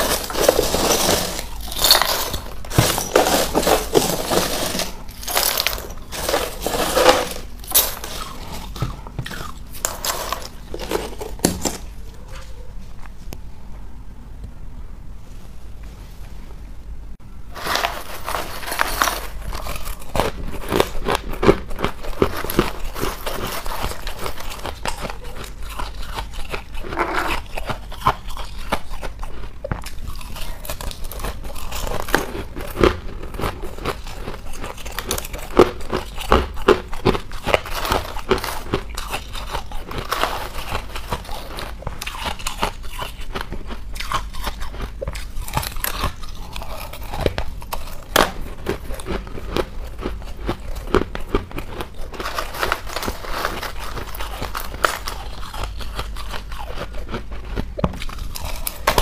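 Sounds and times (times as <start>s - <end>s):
ice being chewed crunching: 0.0s - 12.7s, 17.5s - 59.0s.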